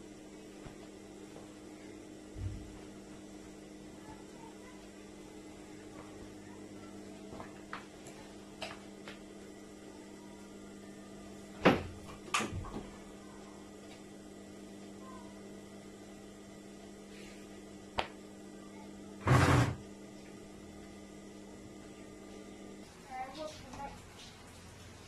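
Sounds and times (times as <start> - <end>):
steady electrical hum: 0.0 - 25.0.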